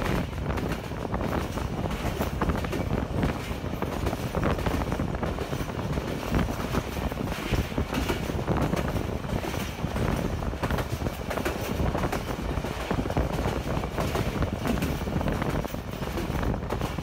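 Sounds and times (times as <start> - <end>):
train rumbling over bridge: 0.0 - 17.0
wheels rattling on rails: 0.0 - 17.0.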